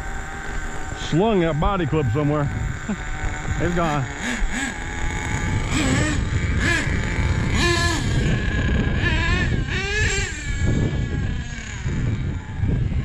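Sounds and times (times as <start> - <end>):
small rc engine revving: 0.0 - 13.0.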